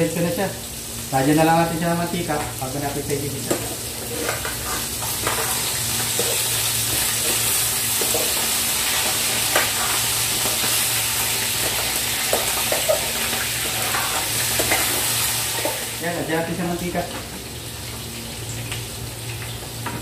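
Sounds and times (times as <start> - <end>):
oil sizzling in pan: 0.0 - 20.0.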